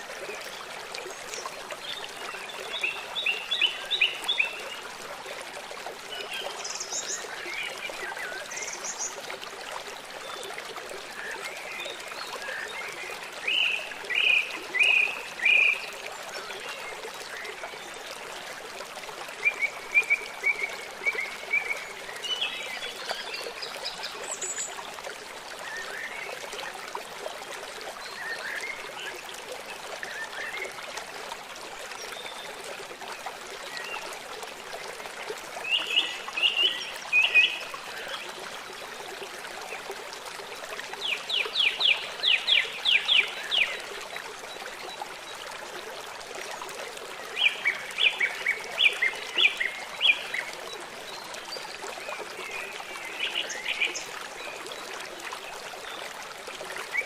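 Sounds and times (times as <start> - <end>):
trickle of running water: 0.0 - 57.0.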